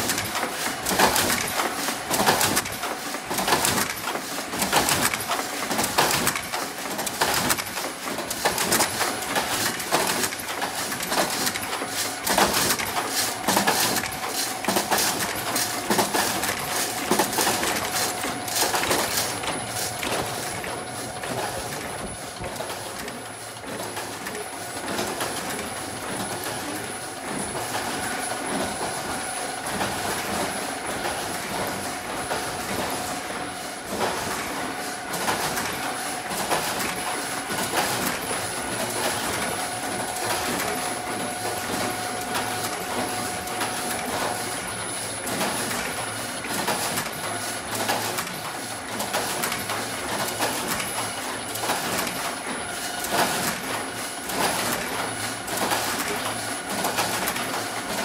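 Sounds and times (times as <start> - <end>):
machine clicking and clattering: 0.0 - 58.0.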